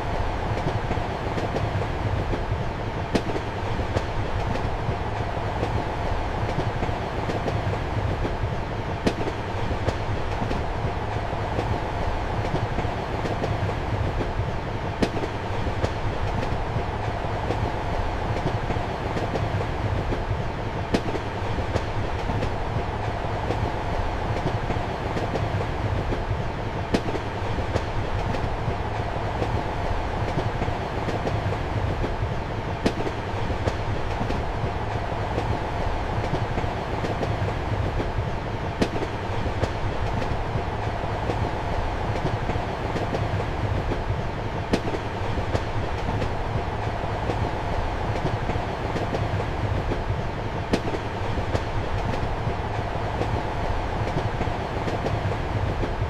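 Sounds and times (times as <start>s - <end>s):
sharp clicks of train wheels: 0.0s - 56.0s
train wheels rumbling on rails: 0.0s - 56.0s.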